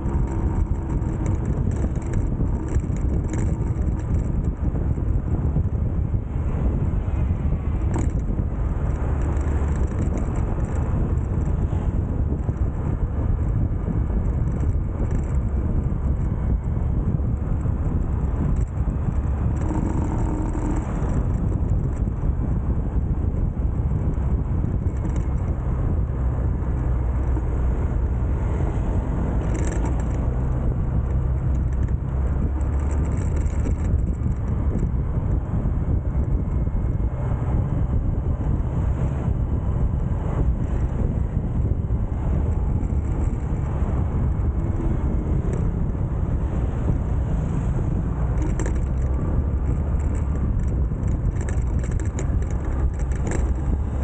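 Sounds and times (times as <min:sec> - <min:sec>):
motorbike engine cruising: 0:00.0 - 0:54.0
wind rushing over microphone: 0:00.0 - 0:54.0.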